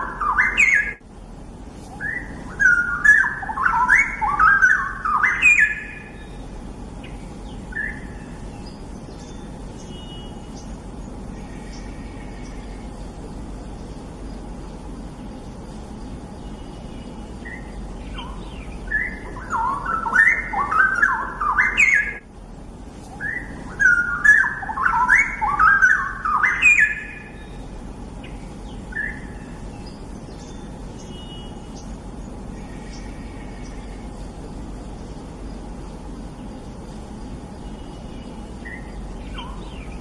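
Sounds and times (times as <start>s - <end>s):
bird warbling song: 0.0s - 1.0s, 1.8s - 22.3s, 22.9s - 40.0s
faint bird chirps: 0.0s - 1.0s, 1.8s - 22.3s, 23.0s - 40.0s
low background hum: 0.0s - 40.0s.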